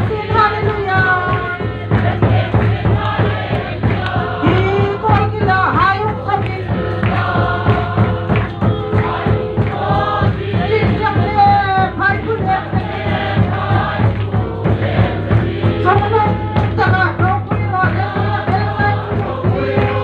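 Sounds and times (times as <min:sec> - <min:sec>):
crowd singing a hymn: 0:00.0 - 0:20.0
steady beat: 0:00.0 - 0:20.0.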